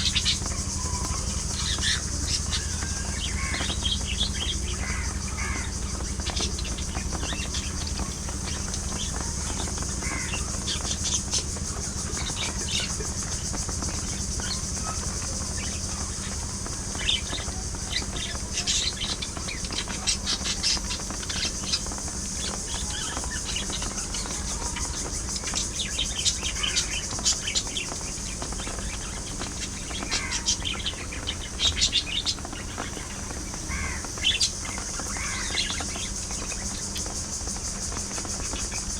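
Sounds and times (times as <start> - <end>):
steady low hum and hiss: 0.0 - 38.9
budgerigars chirping and warbling: 0.1 - 11.2, 14.4 - 36.7.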